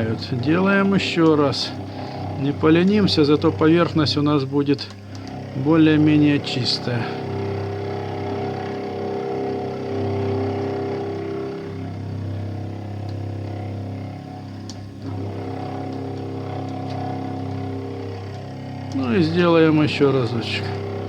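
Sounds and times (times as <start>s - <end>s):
milling machine humming: 0.0s - 21.0s.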